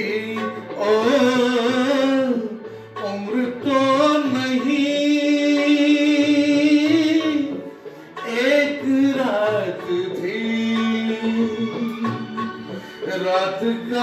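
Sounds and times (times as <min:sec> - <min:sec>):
man singing into a microphone: 0:00.0 - 0:14.0
music backing track: 0:00.0 - 0:14.0.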